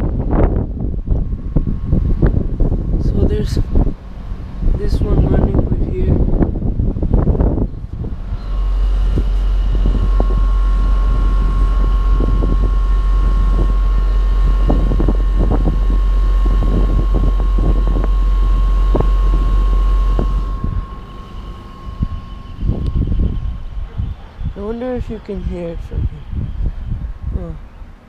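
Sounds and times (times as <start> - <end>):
air conditioner whine: 0.0 - 28.0
wind rumble on microphone: 0.0 - 28.0.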